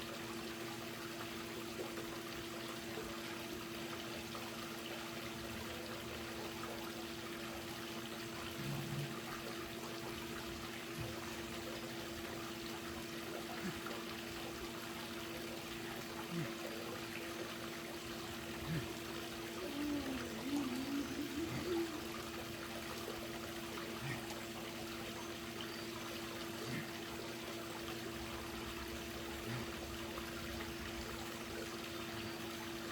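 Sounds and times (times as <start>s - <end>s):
constant low hum: 0.0s - 32.9s
pool water trickling and pouring: 0.0s - 32.9s.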